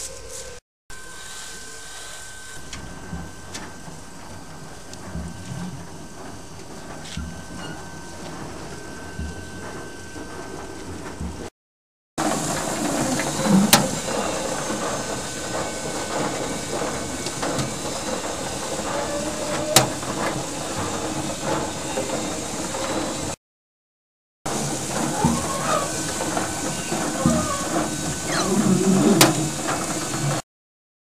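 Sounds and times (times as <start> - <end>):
machine running with hiss: 0.0 - 11.5, 12.2 - 23.4, 24.5 - 30.4.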